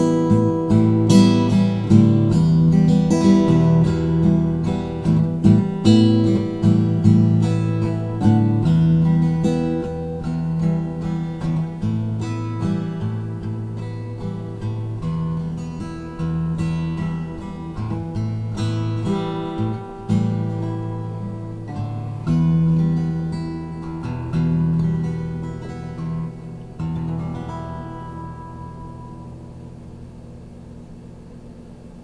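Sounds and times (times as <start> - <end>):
acoustic guitar playing: 0.0 - 32.0.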